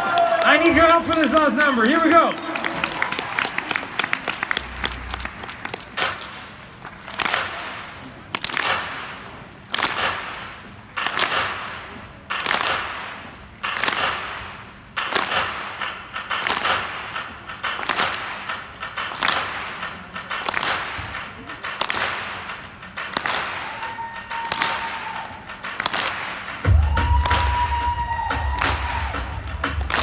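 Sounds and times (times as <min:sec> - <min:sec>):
audience clapping in unison: 0:00.0 - 0:11.6, 0:12.3 - 0:30.0.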